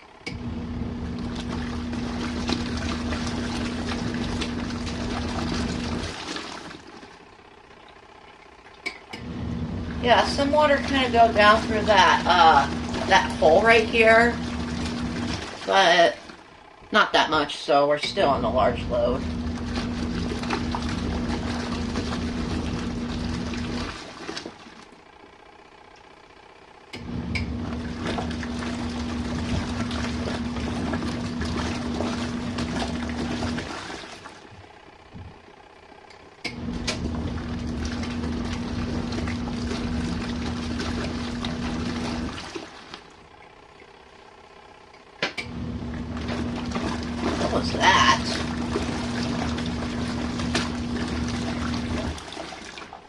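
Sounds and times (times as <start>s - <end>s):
water churning: 0.0s - 25.2s, 27.0s - 35.8s, 36.4s - 53.0s
washing machine motor humming: 0.0s - 53.0s.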